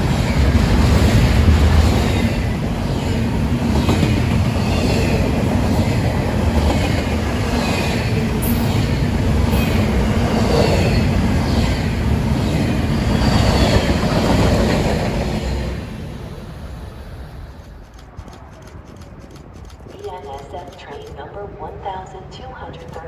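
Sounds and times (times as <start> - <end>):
train wheels rumbling on track: 0.0 - 21.4.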